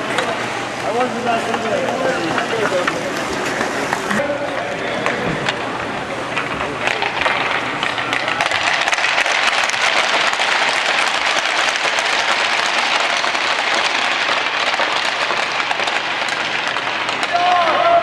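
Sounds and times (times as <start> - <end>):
hockey sticks tapping on ice: 1.4 - 18.0.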